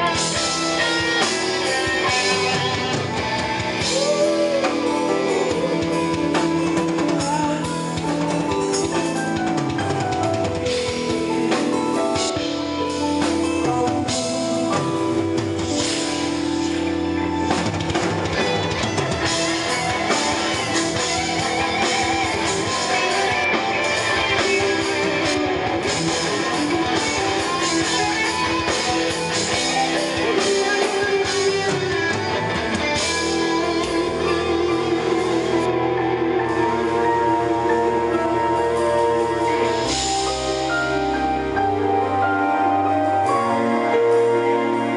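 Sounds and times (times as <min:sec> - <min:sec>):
live metal band playing: 0:00.0 - 0:44.9.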